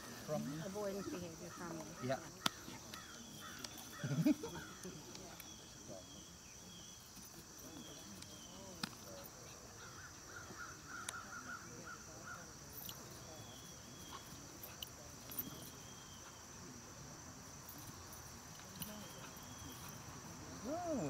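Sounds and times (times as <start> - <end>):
insects buzzing and chirping: 0.0 - 21.0.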